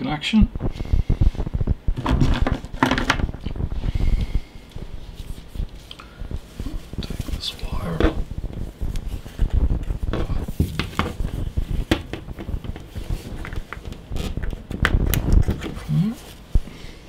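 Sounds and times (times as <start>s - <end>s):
rustling: 0.6s - 17.0s
cables being handled and pulled: 1.4s - 16.6s.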